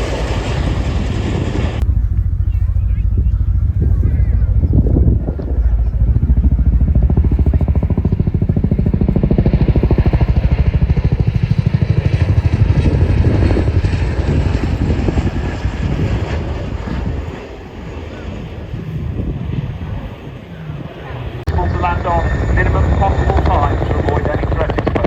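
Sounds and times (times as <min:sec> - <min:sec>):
helicopter rotor beat: 0:00.0 - 0:25.0.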